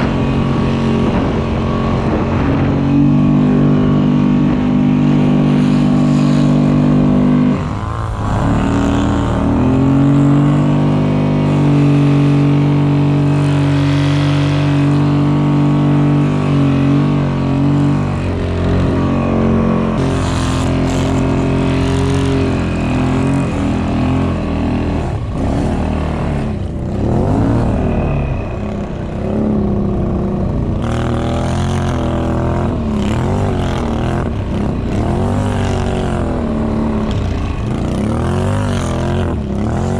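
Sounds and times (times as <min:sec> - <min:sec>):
atv engines running: 0:00.0 - 0:39.9.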